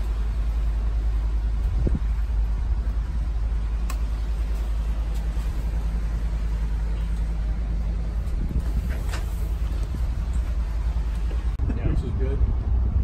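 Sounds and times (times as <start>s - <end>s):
boat engines rumbling: 0.0s - 13.0s.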